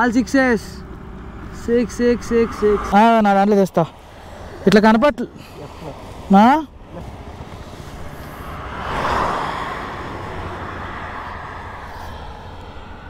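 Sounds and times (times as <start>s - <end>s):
motorcycle engine rumble: 0.0s - 13.0s
wind and road noise: 0.0s - 13.0s.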